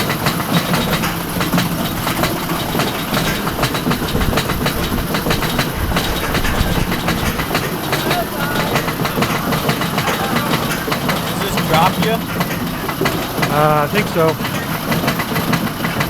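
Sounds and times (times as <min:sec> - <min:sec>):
roller coaster cars rattling: 0:00.0 - 0:16.0.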